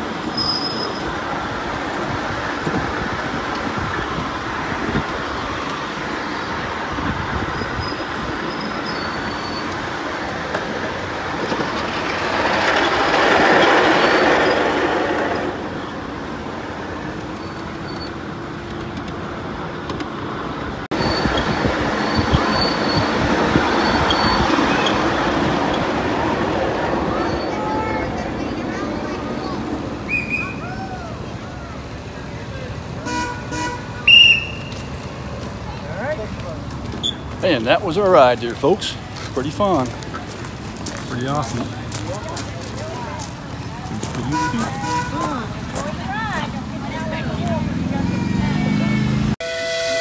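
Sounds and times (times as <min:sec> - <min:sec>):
train wheels rumbling on rails: 0:00.0 - 0:49.4.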